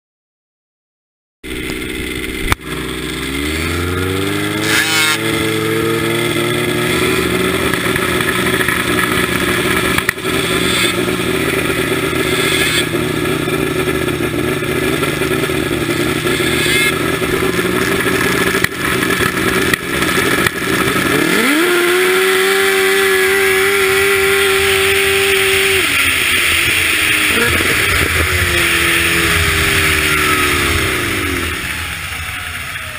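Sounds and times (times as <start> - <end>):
snowmobile engine revving: 1.5 - 32.9.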